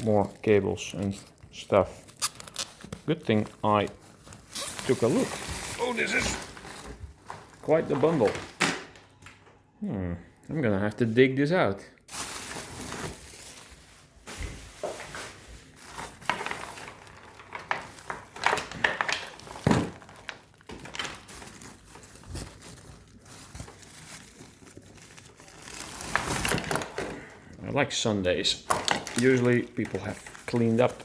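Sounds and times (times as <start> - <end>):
plastic bags rustling: 0.0 - 9.2, 12.1 - 31.0.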